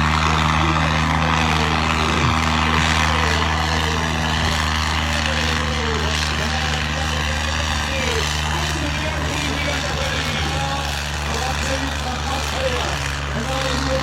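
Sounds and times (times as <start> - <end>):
tractor diesel engine drone: 0.0 - 14.0.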